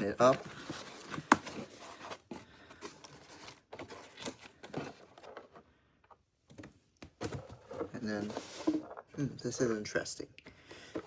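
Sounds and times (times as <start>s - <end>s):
faint cardboard rustling: 0.0s - 10.0s.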